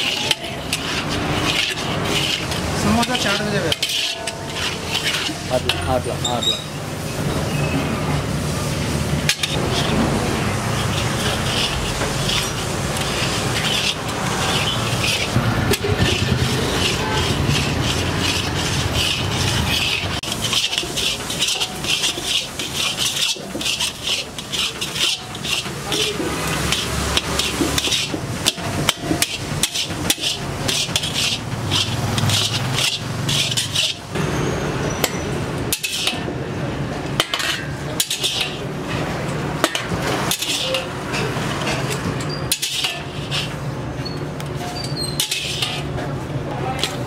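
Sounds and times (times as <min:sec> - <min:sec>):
metal spatula scraping iron pan: 0:00.0 - 0:08.0, 0:08.6 - 0:36.4, 0:37.0 - 0:47.0.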